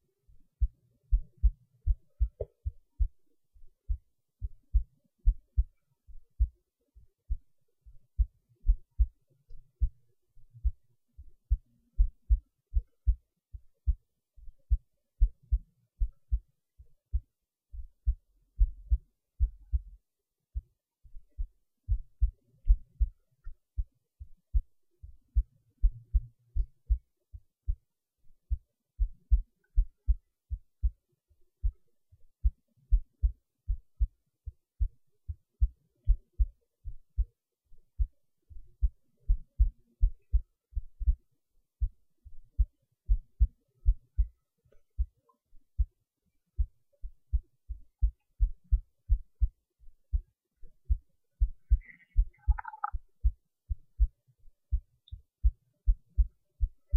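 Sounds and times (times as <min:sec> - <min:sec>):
heart beating: 0:00.3 - 0:31.0, 0:31.6 - 0:46.0, 0:46.6 - 0:56.9.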